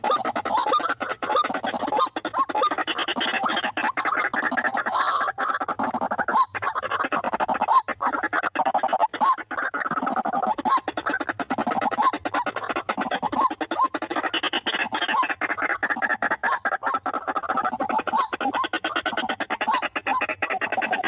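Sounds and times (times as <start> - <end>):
waterhens calling: 0.0 - 21.0.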